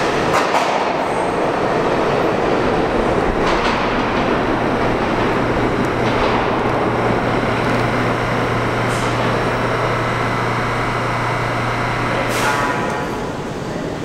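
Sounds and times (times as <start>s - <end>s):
subway train wheels rumbling: 0.0s - 14.0s
low hum: 2.3s - 14.0s.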